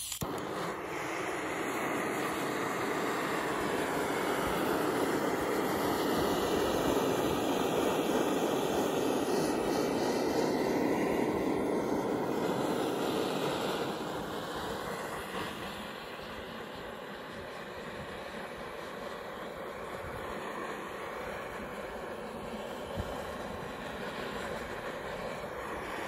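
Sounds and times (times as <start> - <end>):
gas torch flame rushing: 0.0 - 26.0.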